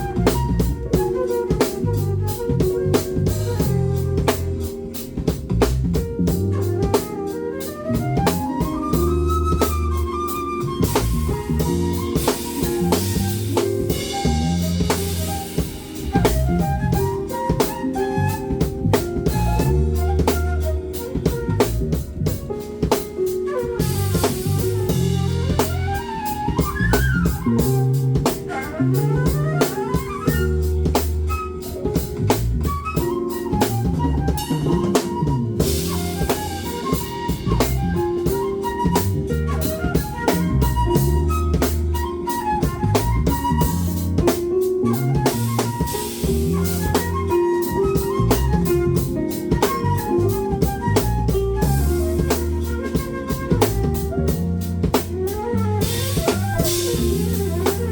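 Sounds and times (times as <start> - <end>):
bass line: 0.0 - 57.9
drum kit groove: 0.0 - 57.9
melodic lead: 0.0 - 57.9.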